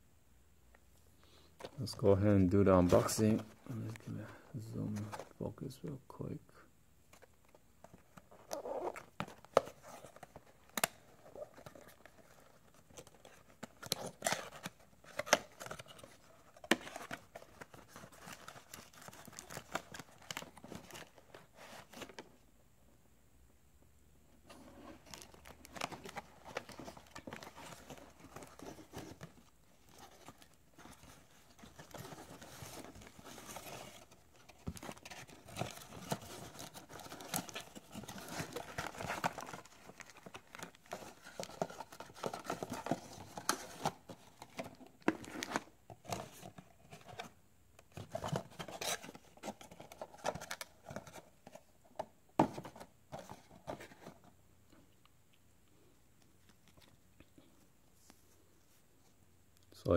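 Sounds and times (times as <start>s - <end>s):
cardboard packaging rustling: 1.6s - 5.4s, 7.1s - 22.3s, 24.4s - 54.3s.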